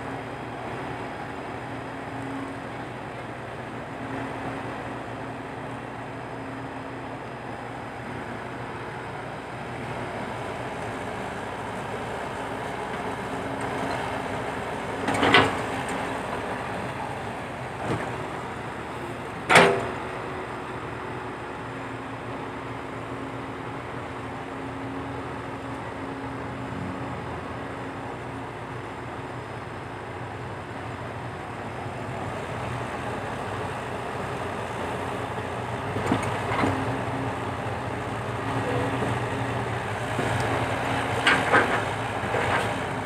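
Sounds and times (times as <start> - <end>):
diesel earthmoving machinery: 0.0 - 43.0.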